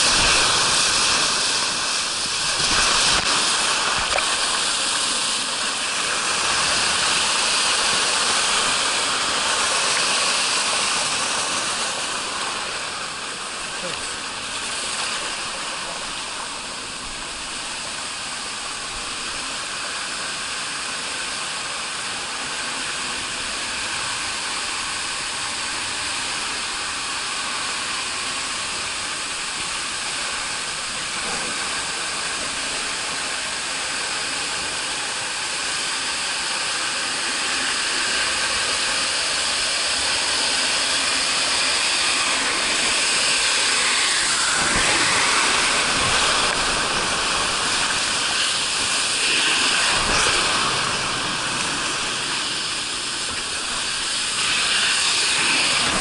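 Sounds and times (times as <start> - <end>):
rushing splashing water: 0.0 - 56.0.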